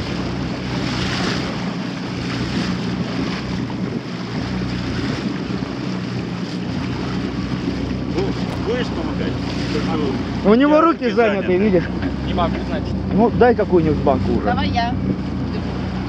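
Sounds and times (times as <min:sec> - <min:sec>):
water washing around boat: 0:00.0 - 0:16.0
wind buffeting microphone: 0:00.0 - 0:16.0.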